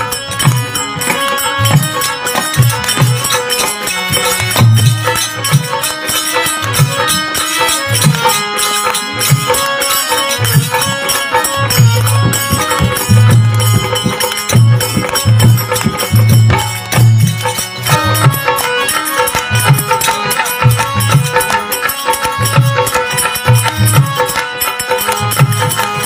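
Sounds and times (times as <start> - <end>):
hand drum beat: 0.0 - 26.0
harmonium melody: 0.0 - 26.0.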